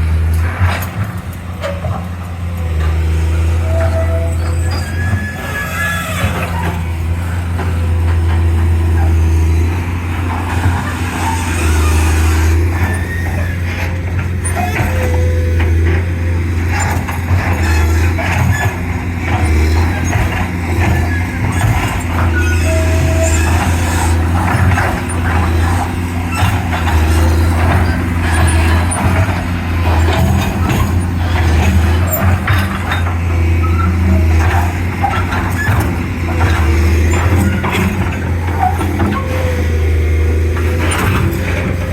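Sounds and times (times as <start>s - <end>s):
excavator diesel engine: 0.0s - 41.9s
knocks and clanks: 0.1s - 41.9s.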